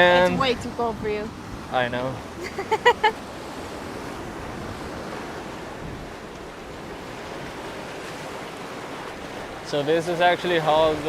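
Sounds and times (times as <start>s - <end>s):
wind on microphone: 0.0s - 9.7s
surf washing onto rocky shore: 0.0s - 11.0s.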